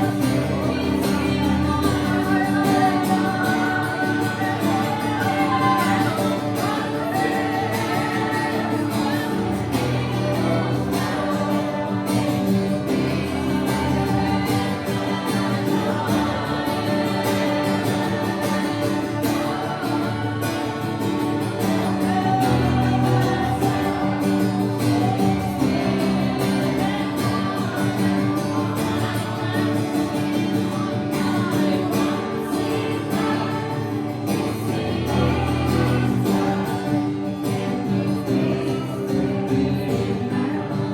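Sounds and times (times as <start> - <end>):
guitar accompaniment: 0.0 - 40.9
voices singing: 0.0 - 40.9.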